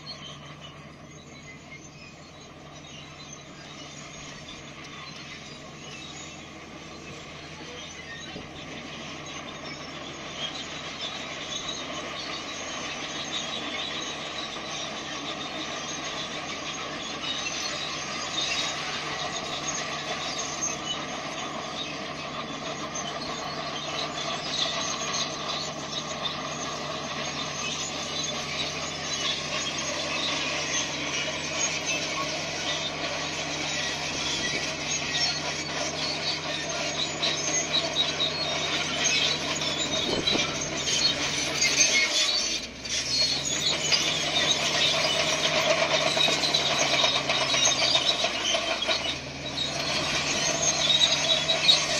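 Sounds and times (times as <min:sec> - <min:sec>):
bulldozer diesel engine running: 0:00.0 - 0:51.9
steel tracks clattering and squealing: 0:00.0 - 0:51.9.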